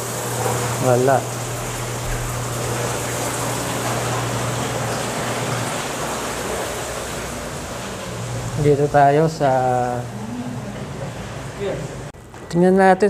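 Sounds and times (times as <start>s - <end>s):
washing machines rushing water: 0.0s - 12.2s
low electric hum: 0.0s - 13.0s.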